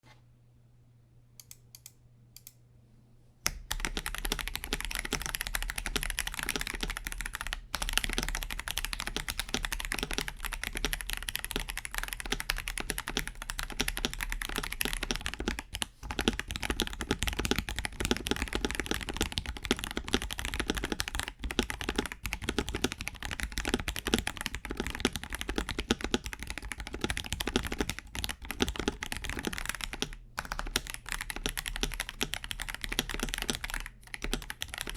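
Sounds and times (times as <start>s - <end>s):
fast mechanical keyboard typing: 3.5s - 34.9s.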